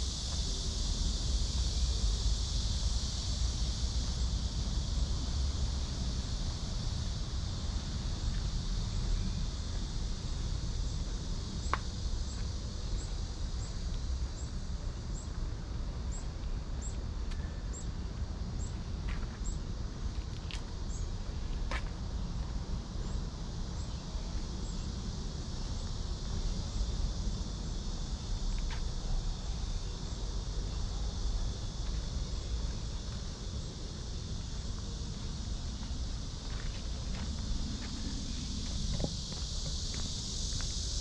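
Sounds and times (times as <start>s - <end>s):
cicadas droning: 0.0s - 41.0s.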